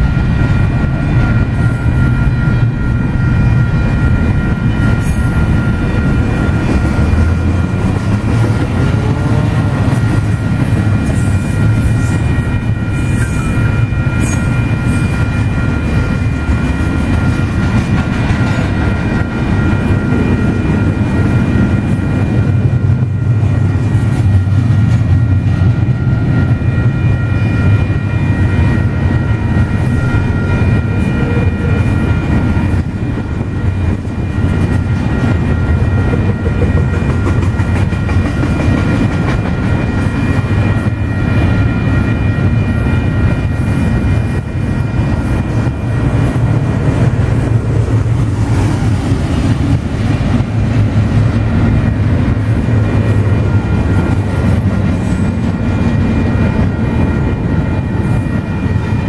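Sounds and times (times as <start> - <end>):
high ringing tones: 0.0 - 59.0
train wheels rumbling on rail: 0.0 - 59.0.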